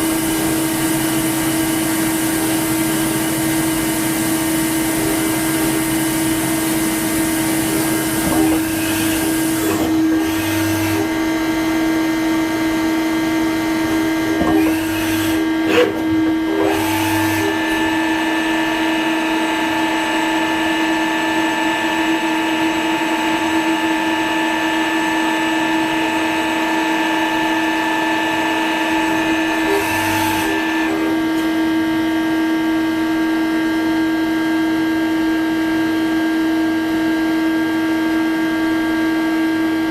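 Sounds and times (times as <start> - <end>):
lathe machine hum: 0.0 - 32.3
high machine whine: 0.0 - 33.8.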